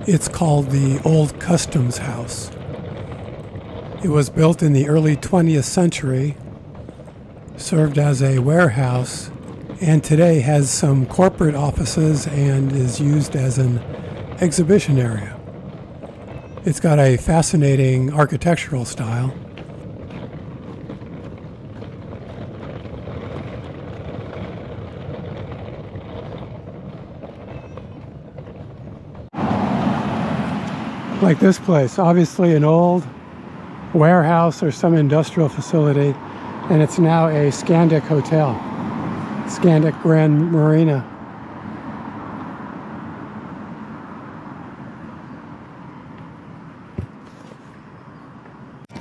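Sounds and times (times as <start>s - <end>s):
steady low rumble: 0.0s - 41.2s
distant road traffic: 0.0s - 49.0s.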